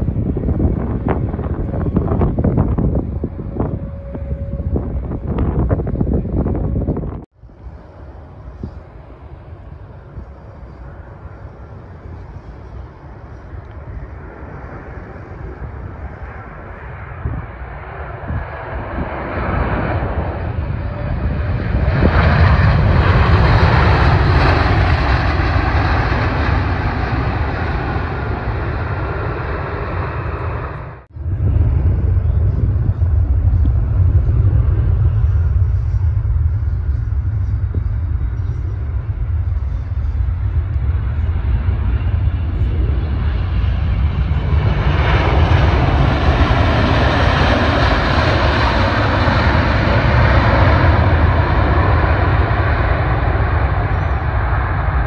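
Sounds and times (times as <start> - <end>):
jet engine roar after touchdown: 0.0 - 55.0
jet engines rumbling on rollout: 0.0 - 55.0.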